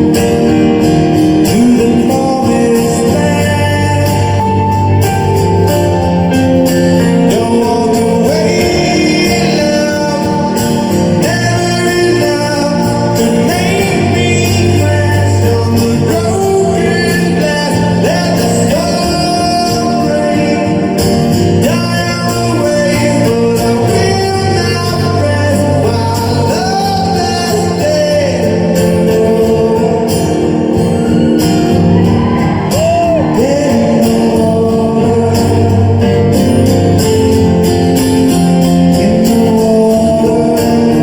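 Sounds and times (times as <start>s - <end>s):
live rock band: 0.0s - 41.0s
male lead vocal: 0.0s - 41.0s.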